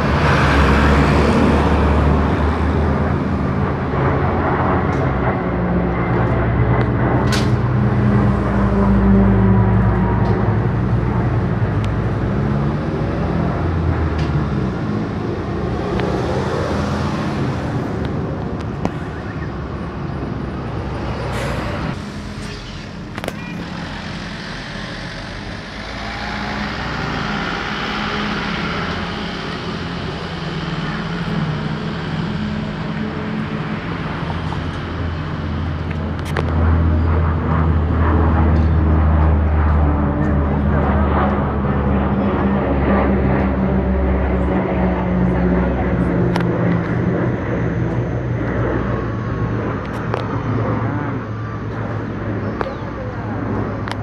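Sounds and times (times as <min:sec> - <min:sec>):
propeller planes droning overhead: 0:00.0 - 0:54.0.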